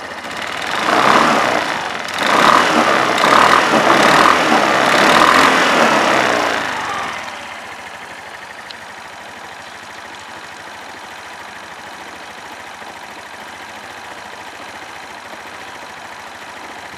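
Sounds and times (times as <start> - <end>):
scooter engine idling: 0.0 - 16.9.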